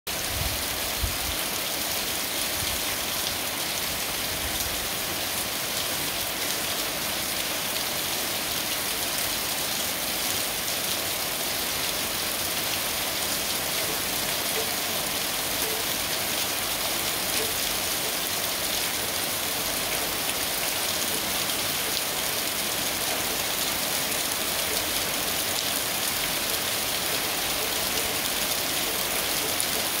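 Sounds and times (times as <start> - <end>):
steady rain falling: 0.1 - 30.0.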